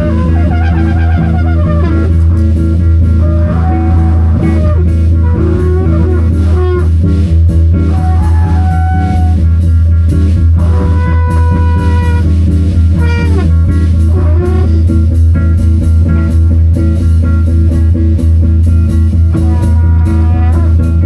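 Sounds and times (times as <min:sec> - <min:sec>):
lead guitar sliding notes: 0:00.0 - 0:17.6, 0:18.6 - 0:21.0
bass guitar: 0:00.0 - 0:21.0
drum kit groove: 0:00.0 - 0:21.0.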